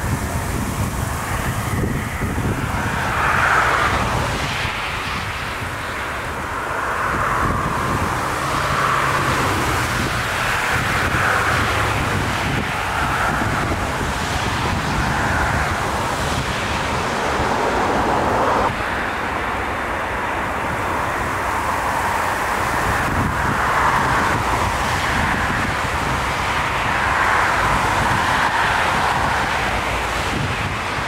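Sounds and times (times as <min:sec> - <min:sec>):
jet engines roaring: 0:00.0 - 0:31.0
wind buffeting microphone: 0:00.0 - 0:31.0.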